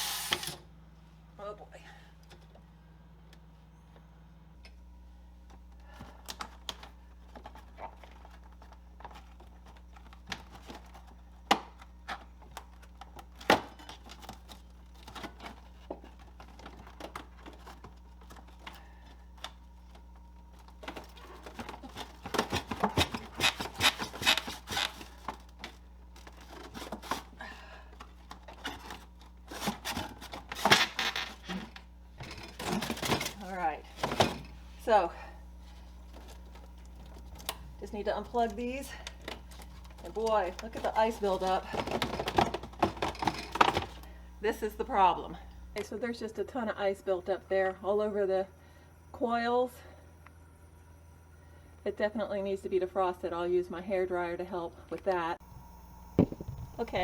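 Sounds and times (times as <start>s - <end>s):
refrigerator humming: 0.0s - 57.0s.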